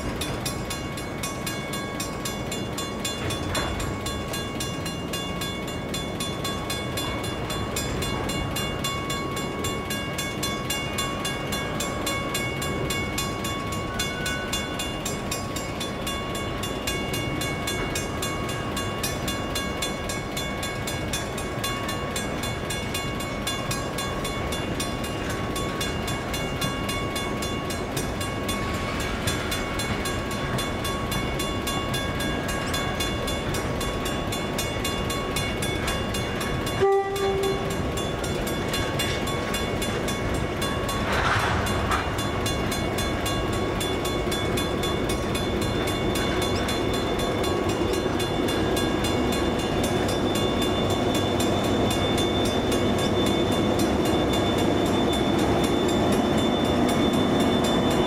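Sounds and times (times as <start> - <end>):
freight train rolling past: 0.0 - 58.0
level crossing warning bell: 0.0 - 58.0.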